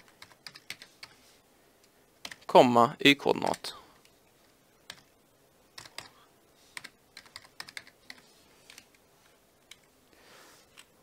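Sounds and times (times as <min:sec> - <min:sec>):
faint keyboard typing: 0:00.0 - 0:02.6, 0:03.4 - 0:10.0, 0:10.7 - 0:11.0.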